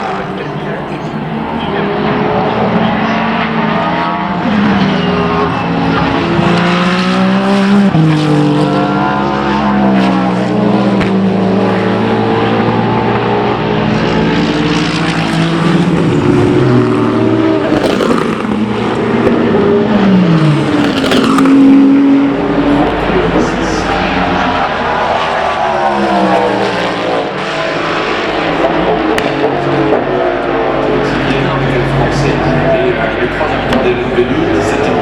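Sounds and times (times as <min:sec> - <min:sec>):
racing car engines: 0:00.0 - 0:35.0.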